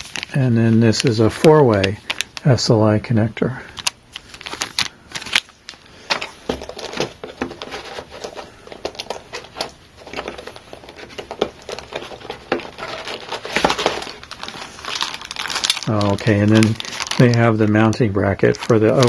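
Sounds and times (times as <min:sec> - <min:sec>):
plastic bags crinkling: 0:00.0 - 0:02.6, 0:03.7 - 0:19.0.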